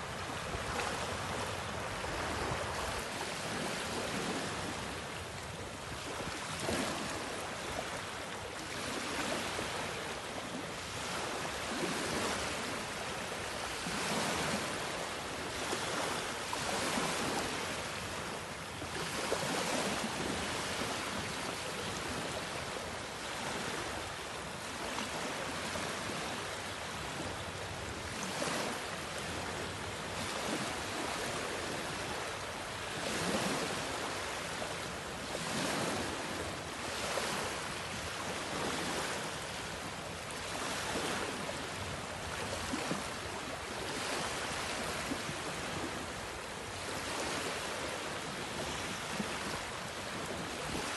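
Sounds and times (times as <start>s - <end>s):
small waves washing on beach: 0.0s - 50.9s.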